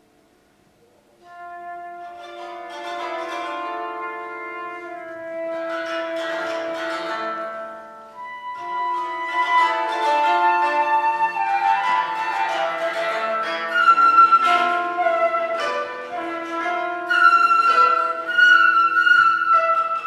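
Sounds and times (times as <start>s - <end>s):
plucked koto: 0.9s - 20.0s
flute melody: 1.2s - 20.0s.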